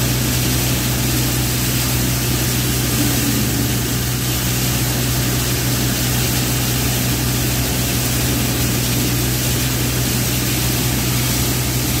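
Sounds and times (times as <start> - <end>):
constant rushing noise: 0.0 - 12.0
thresher and tractor droning: 0.0 - 12.0.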